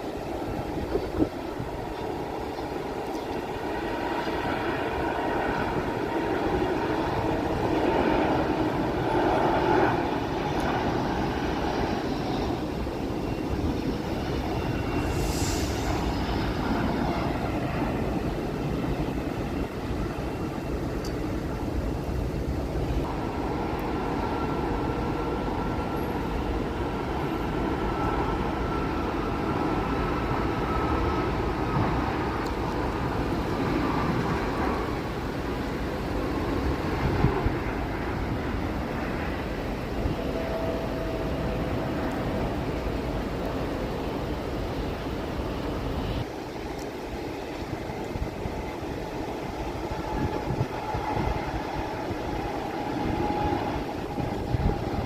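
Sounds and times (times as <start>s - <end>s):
jet engines rumbling and whining: 0.0s - 55.0s
thin high whine: 2.0s - 55.0s.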